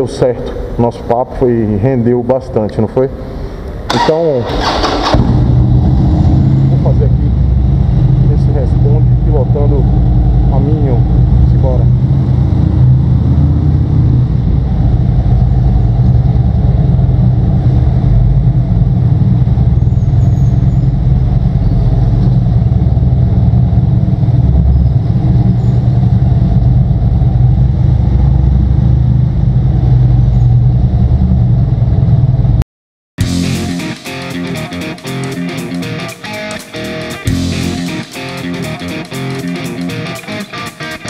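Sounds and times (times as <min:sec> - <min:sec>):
motorcycle engine rumbling: 0:00.0 - 0:32.6, 0:33.2 - 0:40.2.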